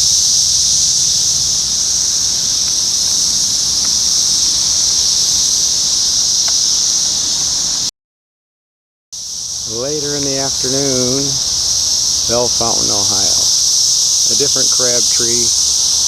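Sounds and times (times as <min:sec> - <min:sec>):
cicadas droning: 0:00.0 - 0:07.9, 0:09.2 - 0:16.0.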